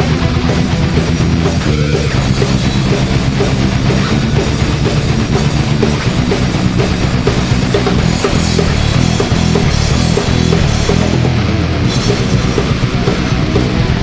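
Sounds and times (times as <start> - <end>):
bass guitar: 0.0 - 14.0
drum kit: 0.0 - 14.0
electric guitar rock lead: 0.0 - 14.0.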